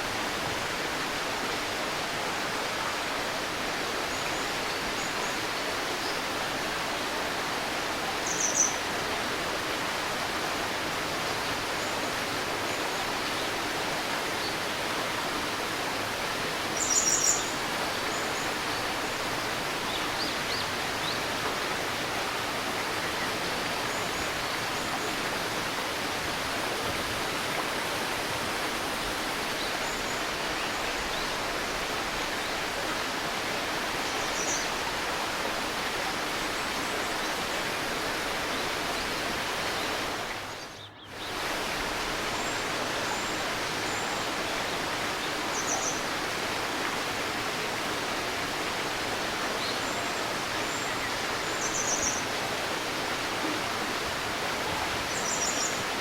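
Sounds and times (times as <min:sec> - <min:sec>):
river babbling: 0:00.0 - 0:56.0.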